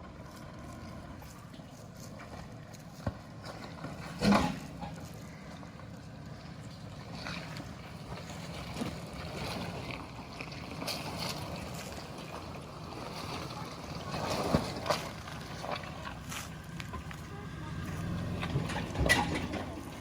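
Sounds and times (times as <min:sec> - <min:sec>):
truck engine running slowly: 0:00.0 - 0:20.0.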